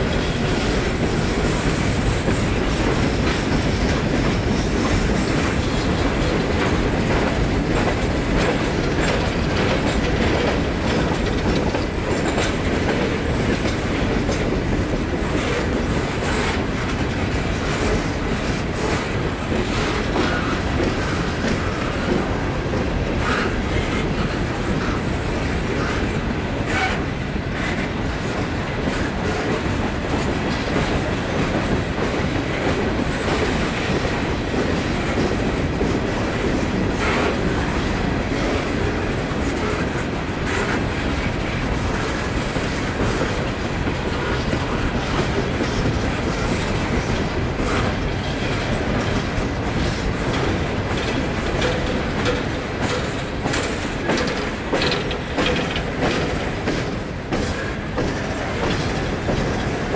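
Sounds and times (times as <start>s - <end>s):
train wheels rumbling on rail: 0.0s - 59.9s
wheels clacking over rail joints: 0.0s - 59.9s.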